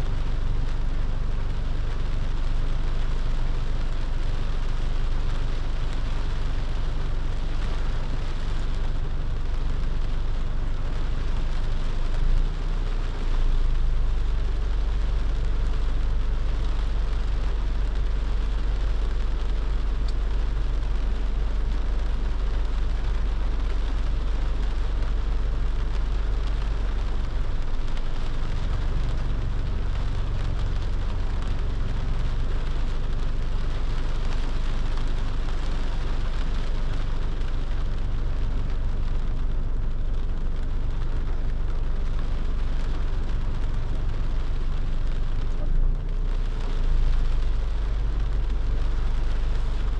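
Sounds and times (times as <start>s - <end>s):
car engine and tyres rumbling: 0.0s - 49.9s
rain hissing on a car: 0.0s - 49.9s.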